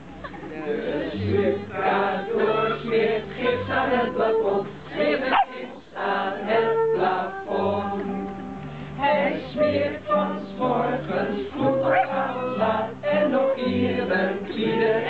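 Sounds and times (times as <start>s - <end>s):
group of people singing: 0.4s - 8.3s, 9.0s - 15.0s.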